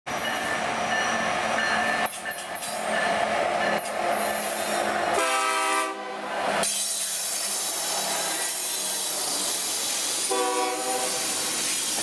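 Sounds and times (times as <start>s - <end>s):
train wheels rolling on rail: 0.1s - 12.0s.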